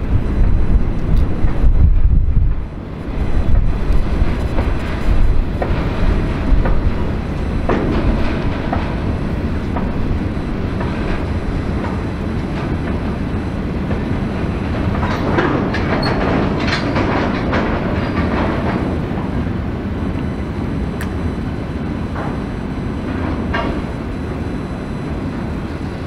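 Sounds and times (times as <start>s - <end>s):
wheels clattering over rail joints: 0.0s - 20.2s, 23.0s - 24.3s
freight train wagons rolling: 0.0s - 26.0s.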